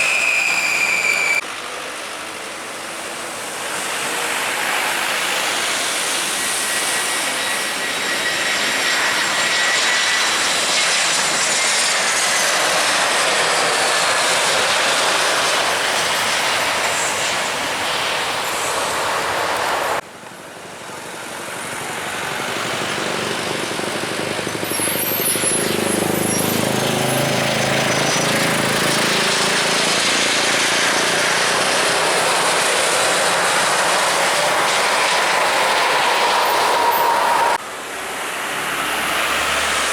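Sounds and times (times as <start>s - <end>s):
jet airliner engines whining: 0.0s - 39.9s.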